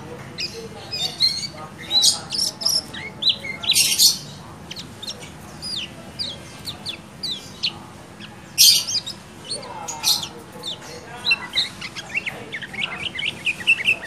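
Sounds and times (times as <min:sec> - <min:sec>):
bird chirping: 0:00.0 - 0:14.0
bird chattering bursts: 0:00.4 - 0:14.0.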